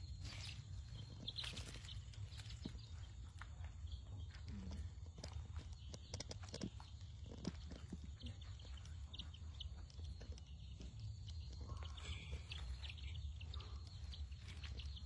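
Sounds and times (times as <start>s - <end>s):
chicks peeping: 0.0s - 15.0s
steady low hum: 0.0s - 15.0s.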